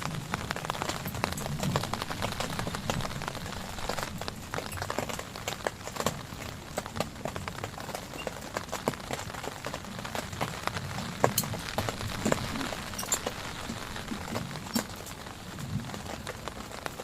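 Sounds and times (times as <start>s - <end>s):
heavy rain falling: 0.0s - 17.0s
raindrops hitting a surface: 0.0s - 17.0s.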